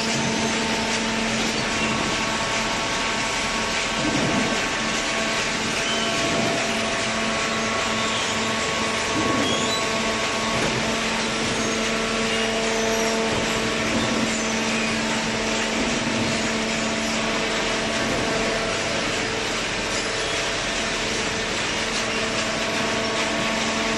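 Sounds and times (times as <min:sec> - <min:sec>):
hydraulic machine humming and hissing: 0:00.0 - 0:23.9.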